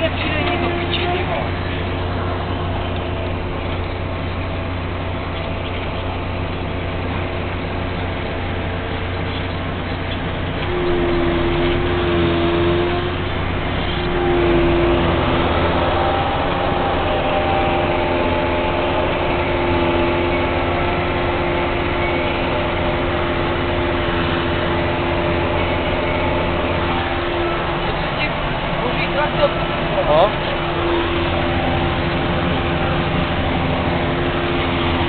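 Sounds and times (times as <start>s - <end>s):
engine drone: 0.0s - 35.0s
machinery whine: 0.0s - 35.0s.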